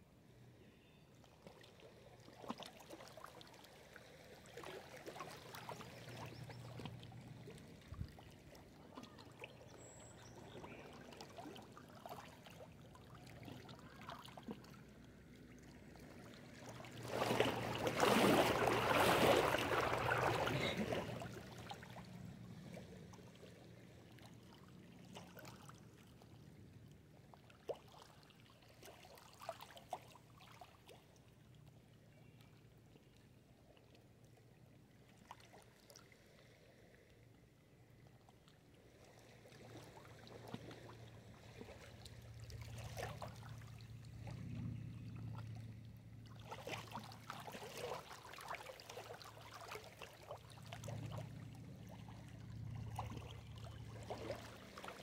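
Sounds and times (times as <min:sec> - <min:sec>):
small waves lapping on rocks: 0:01.4 - 0:31.4, 0:34.9 - 0:44.3, 0:46.2 - 0:55.0.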